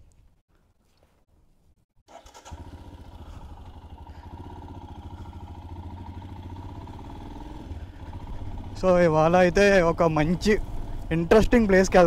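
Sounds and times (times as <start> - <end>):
motorcycle engine starting and idling: 2.1 - 12.0.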